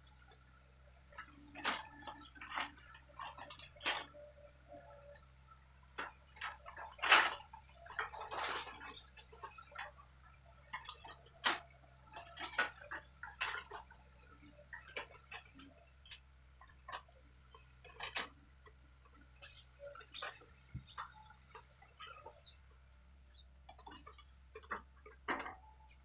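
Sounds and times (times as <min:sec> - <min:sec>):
distant excavator engine hum: 0:00.0 - 0:26.0.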